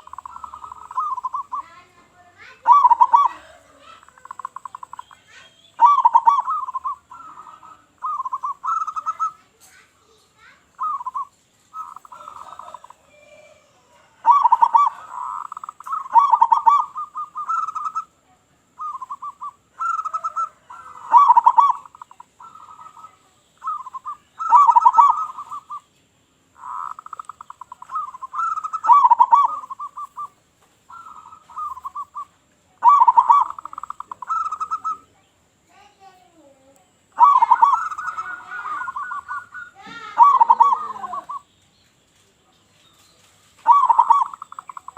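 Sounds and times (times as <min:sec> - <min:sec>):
dove cooing: 0:00.0 - 0:09.8, 0:10.4 - 0:25.9, 0:26.6 - 0:35.1, 0:36.4 - 0:41.5, 0:43.6 - 0:44.9.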